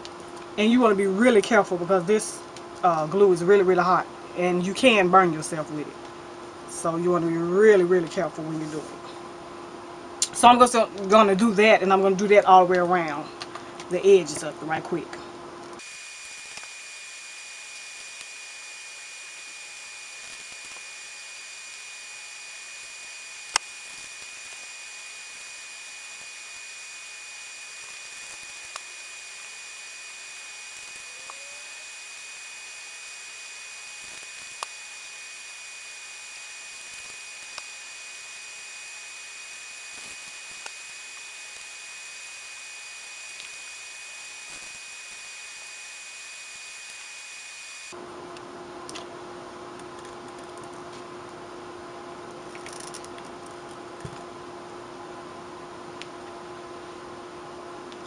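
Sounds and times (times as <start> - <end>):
steady hiss with high whine: 0.0 - 58.0.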